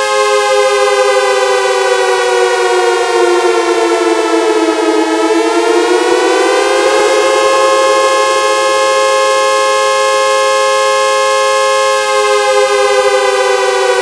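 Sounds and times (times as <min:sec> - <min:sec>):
air raid siren wailing: 0:00.0 - 0:14.0.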